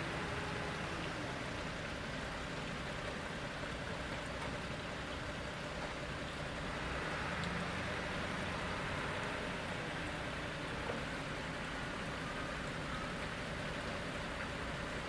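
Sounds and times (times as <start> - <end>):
machinery rushing with water: 0.0 - 15.0.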